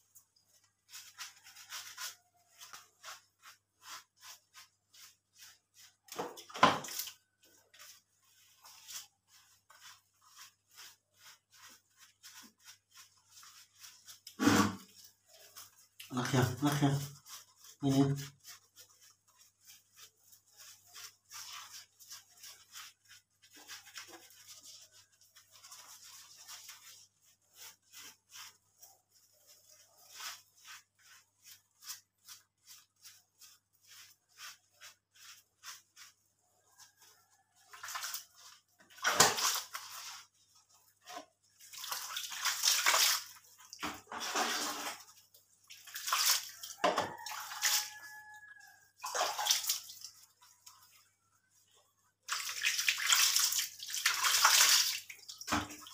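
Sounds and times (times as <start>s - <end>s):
water pouring and splashing: 0.0s - 48.4s, 49.0s - 55.9s
brush scrubbing wet fur: 0.0s - 55.9s.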